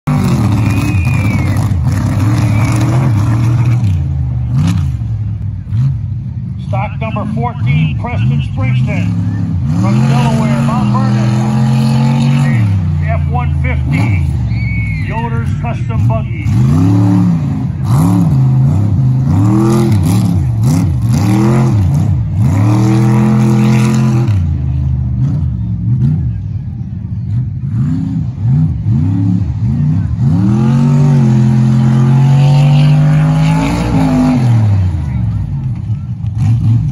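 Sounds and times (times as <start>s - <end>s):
engine revving: 0.0s - 36.9s
truck engine running high: 0.0s - 36.9s.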